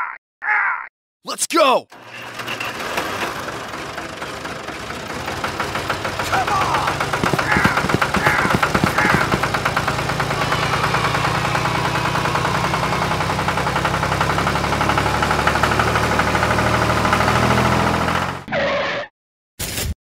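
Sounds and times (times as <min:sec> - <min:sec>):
tractor engine chugging: 0:01.9 - 0:18.4.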